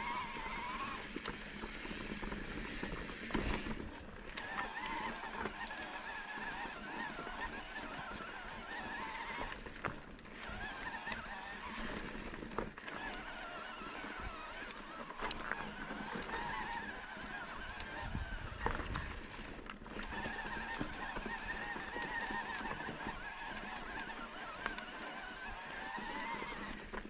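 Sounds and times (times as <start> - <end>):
electric bike motor whining: 0.0 - 27.0.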